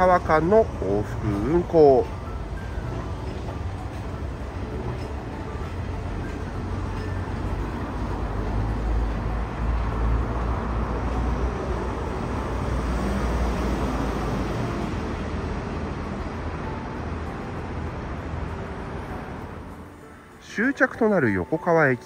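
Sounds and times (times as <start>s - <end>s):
train rumbling on rails: 0.0s - 20.1s.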